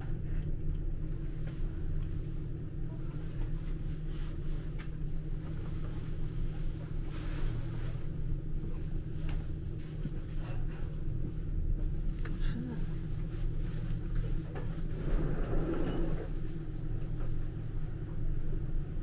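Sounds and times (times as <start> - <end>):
train rumbling on track: 0.0 - 19.0.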